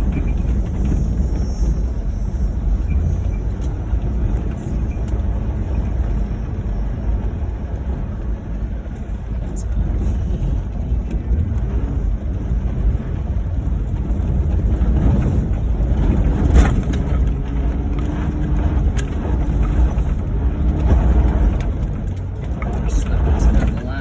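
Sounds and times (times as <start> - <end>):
car engine and road rumble: 0.0 - 24.0
engine hum: 0.0 - 24.0.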